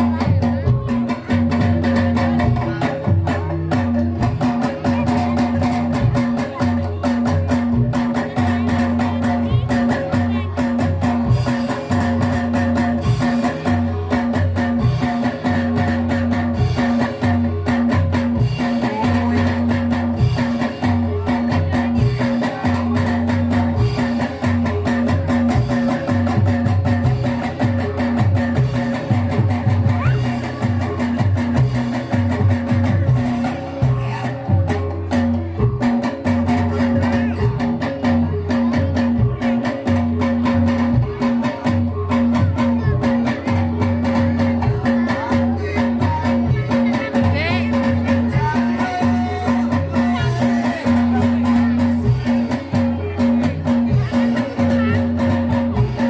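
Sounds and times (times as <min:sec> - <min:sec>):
low bass line: 0:00.0 - 0:56.0
steady driving beat: 0:00.0 - 0:56.0.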